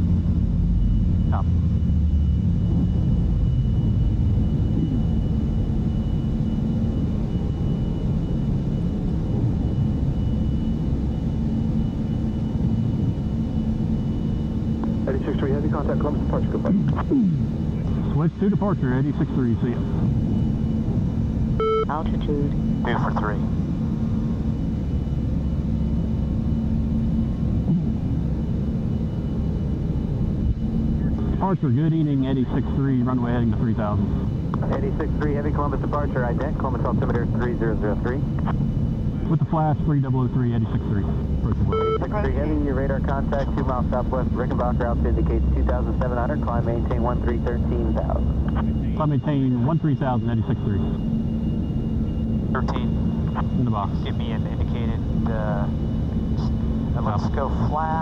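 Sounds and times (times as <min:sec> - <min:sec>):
faint steady hum: 0:00.0 - 0:58.0
jet engines rumbling in cockpit: 0:00.0 - 0:58.0.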